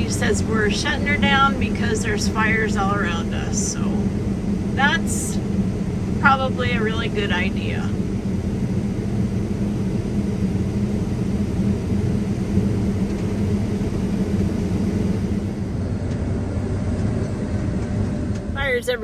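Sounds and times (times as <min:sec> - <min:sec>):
combine harvester droning: 0:00.0 - 0:19.0.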